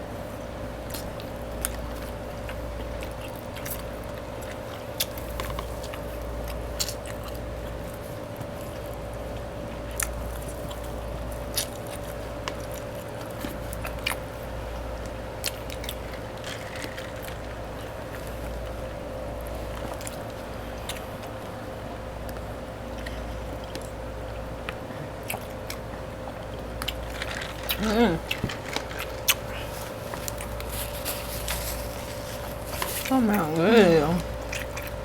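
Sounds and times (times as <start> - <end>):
faint steady hum: 0.0 - 35.0
chewing and biting: 0.5 - 35.0.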